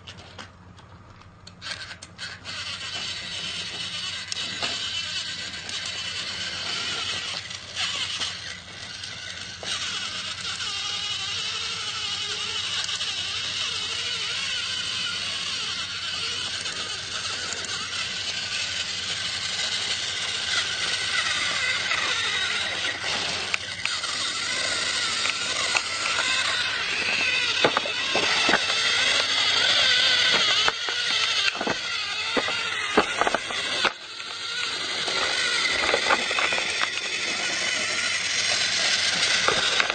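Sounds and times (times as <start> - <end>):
toy train motor whirring: 1.4 - 39.9.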